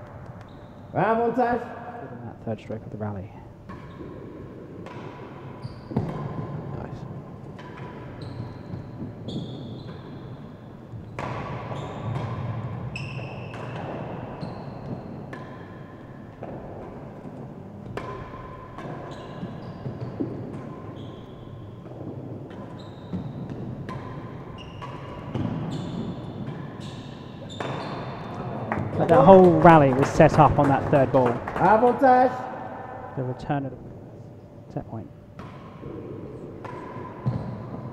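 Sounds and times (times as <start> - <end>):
ball knocking in enclosed court: 3.7 - 32.2, 35.3 - 37.9.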